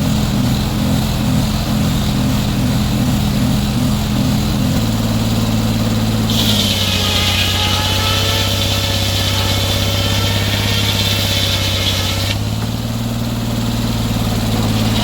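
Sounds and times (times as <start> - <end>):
high whine: 0.0 - 15.0
sawmill engine running: 0.0 - 15.0.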